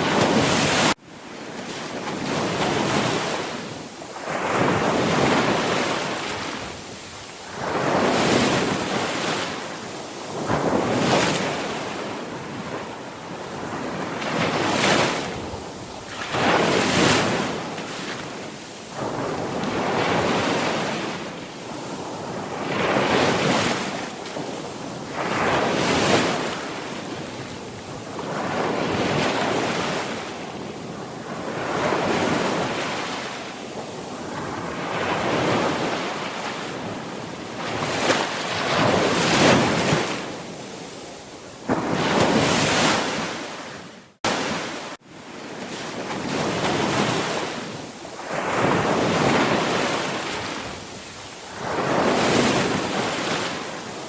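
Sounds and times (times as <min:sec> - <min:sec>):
sea waves breaking: 0:00.0 - 0:54.0
wind noise on microphone: 0:00.0 - 0:54.0.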